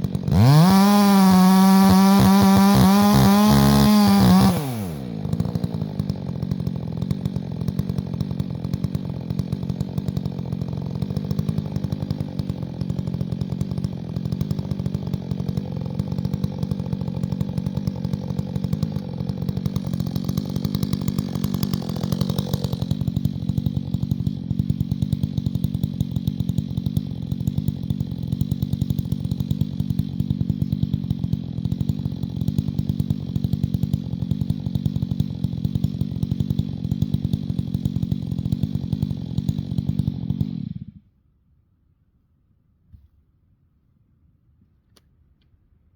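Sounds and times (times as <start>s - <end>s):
chainsaw engine running: 0.0s - 41.0s.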